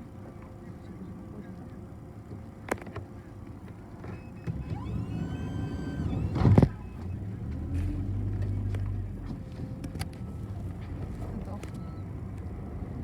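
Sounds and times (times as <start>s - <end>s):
bus drivetrain whine: 0.0s - 13.0s
low engine rumble: 0.0s - 13.0s.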